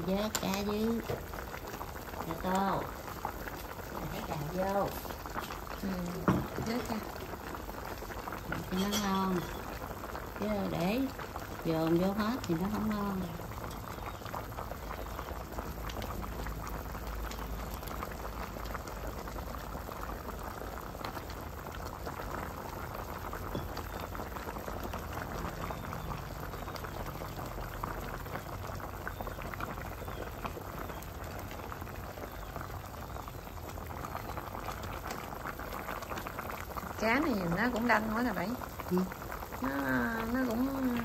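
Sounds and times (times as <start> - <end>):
stew bubbling in a pot: 0.0 - 41.0.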